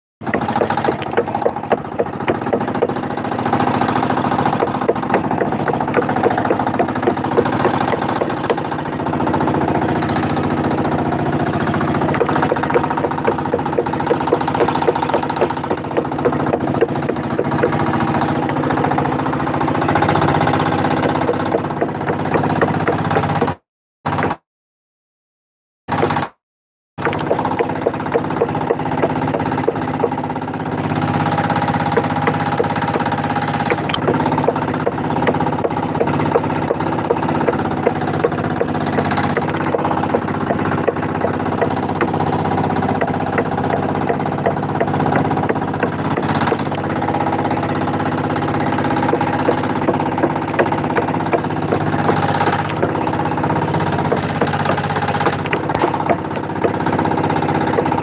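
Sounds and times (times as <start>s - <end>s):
small boat engine knocking: 0.2s - 24.4s, 25.9s - 26.4s, 27.0s - 58.0s.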